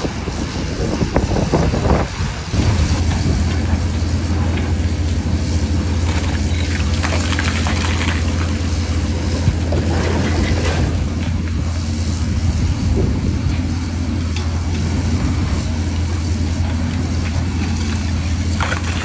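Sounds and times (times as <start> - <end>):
excavator engine running: 0.0 - 19.0
heavy low drone: 0.0 - 19.0.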